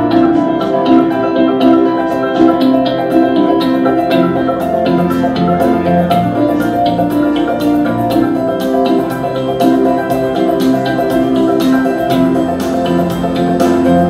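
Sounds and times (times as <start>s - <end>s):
instrumental music: 0.0s - 14.0s.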